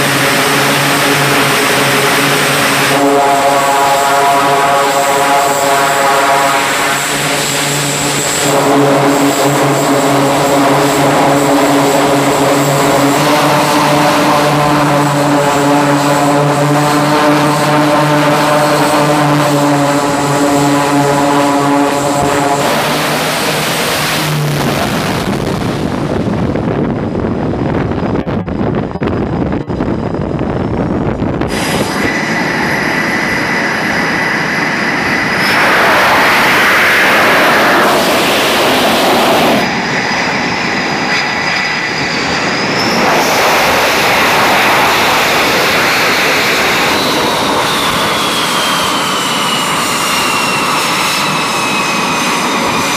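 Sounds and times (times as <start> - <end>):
aircraft rushing noise: 0.0 - 52.9
turboprop propeller drone: 0.0 - 52.9.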